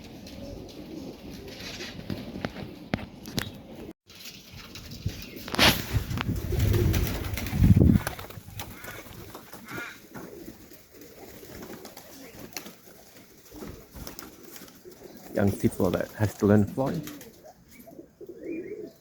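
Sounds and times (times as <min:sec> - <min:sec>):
pigeons cooing: 0:00.0 - 0:03.9, 0:06.2 - 0:19.0.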